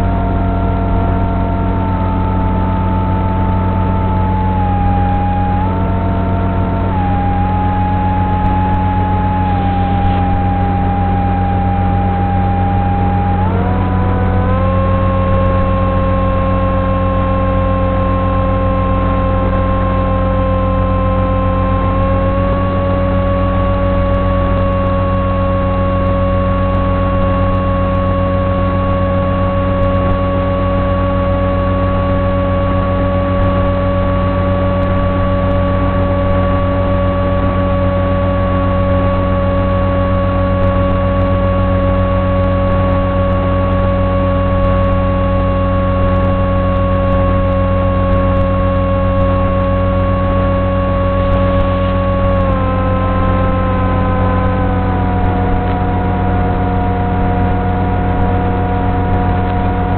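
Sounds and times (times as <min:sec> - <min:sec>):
electric motor and propeller whining: 0:00.0 - 0:59.9
low hum: 0:00.0 - 0:59.9.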